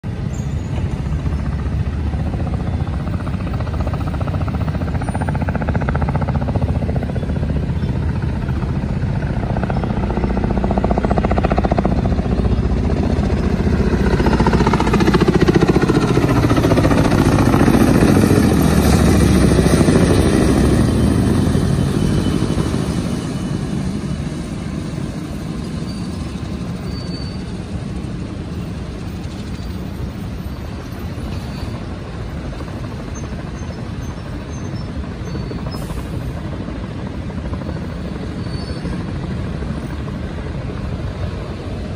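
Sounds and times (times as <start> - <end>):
helicopter rotor and engine: 0.0 - 41.9.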